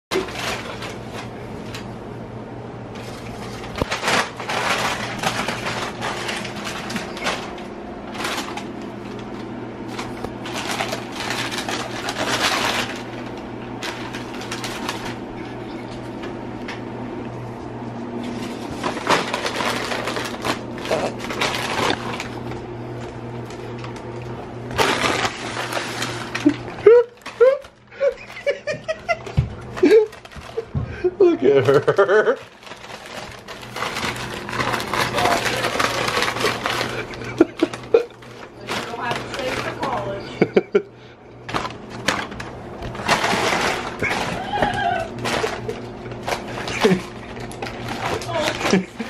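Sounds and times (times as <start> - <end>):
paper bag crinkling and rustling: 0.1 - 2.2, 2.9 - 16.5, 17.7 - 49.0
steady low hum: 0.1 - 49.0.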